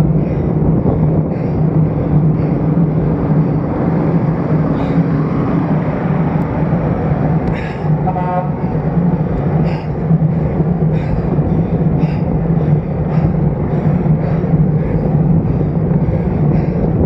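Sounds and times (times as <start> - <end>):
steady low hum: 0.0 - 17.0
wind and road rumble: 0.0 - 17.0.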